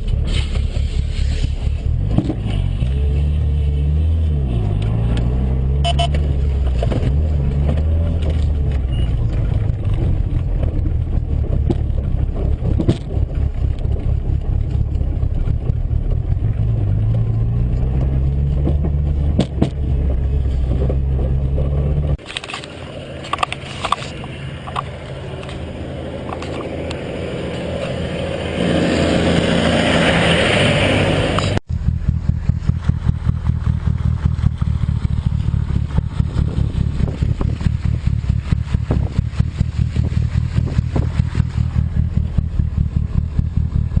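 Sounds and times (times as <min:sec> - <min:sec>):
car engine and road noise: 0:00.0 - 0:44.0
low engine drone: 0:00.0 - 0:44.0.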